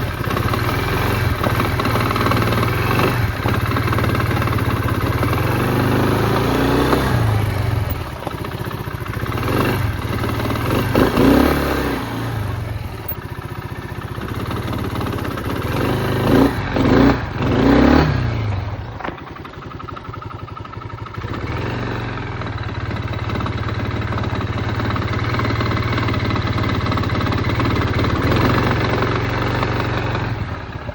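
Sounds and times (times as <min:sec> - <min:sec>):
quad engine idling and revving: 0:00.0 - 0:30.9.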